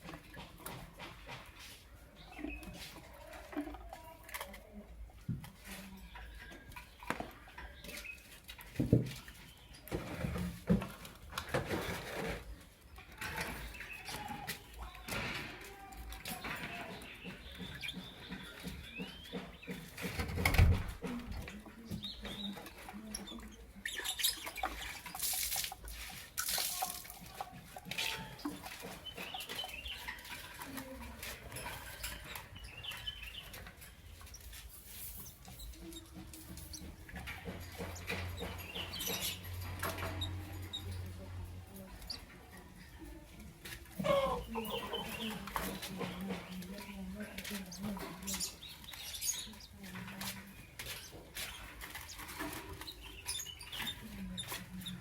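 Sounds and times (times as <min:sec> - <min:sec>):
rustling and scratching: 0:00.0 - 0:55.0
lovebirds chirping: 0:02.0 - 0:55.0.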